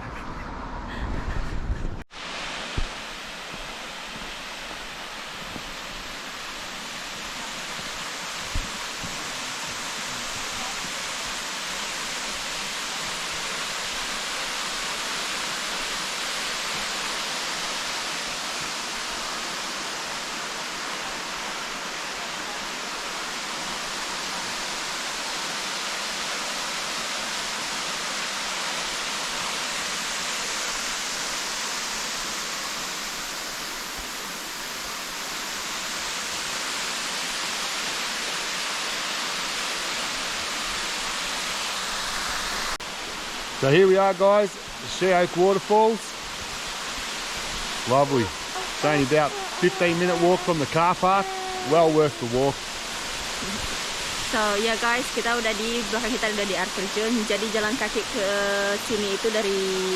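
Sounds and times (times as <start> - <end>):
waterfall rushing: 2.1 - 59.9.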